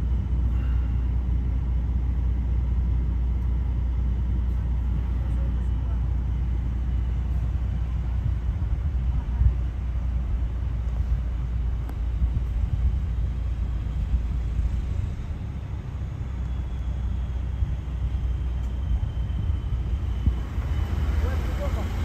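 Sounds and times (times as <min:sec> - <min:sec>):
vehicle idling from inside: 0:00.0 - 0:22.0.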